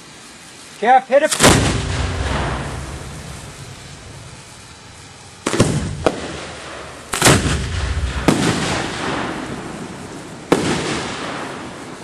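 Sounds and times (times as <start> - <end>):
firework shells booming: 1.3 - 12.0.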